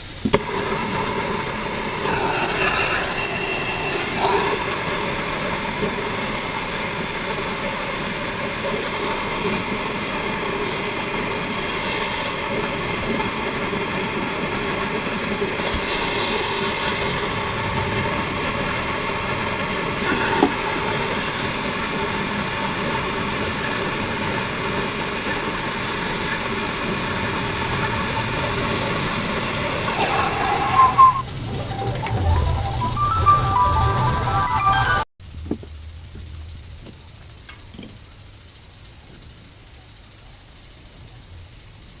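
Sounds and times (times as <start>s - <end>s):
small motor humming: 0.2s - 35.0s.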